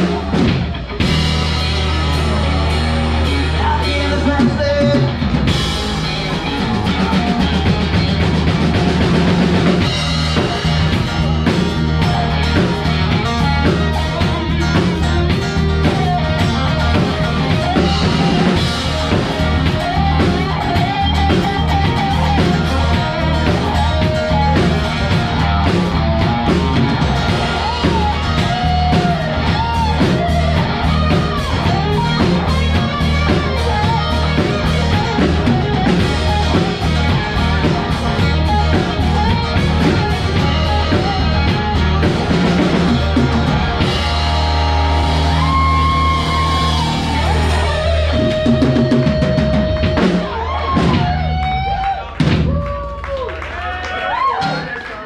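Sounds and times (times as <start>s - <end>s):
electric guitars: 0.0s - 54.7s
bass guitar: 0.0s - 54.8s
drum kit: 0.0s - 54.8s.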